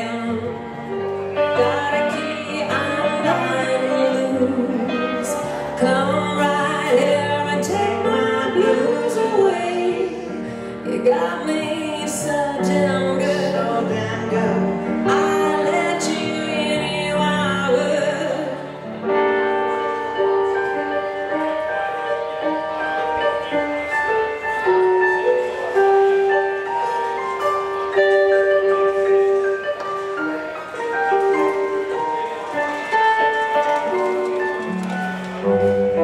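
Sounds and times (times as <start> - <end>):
keyboard: 0.0 - 36.0.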